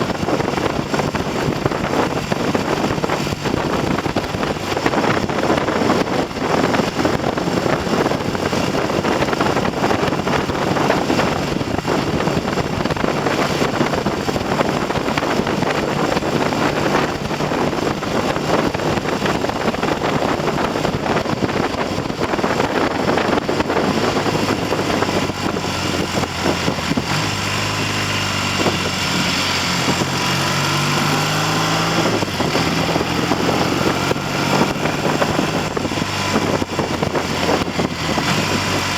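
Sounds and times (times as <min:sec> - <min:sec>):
motorcycle engine: 0:00.0 - 0:38.9
wind buffeting microphone: 0:00.0 - 0:38.9.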